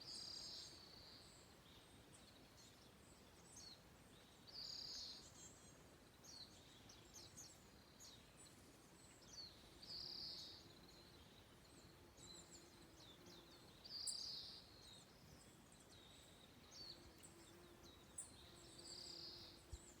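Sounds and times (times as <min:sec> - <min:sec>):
buzzy trilled bird song: 0:00.0 - 0:20.0.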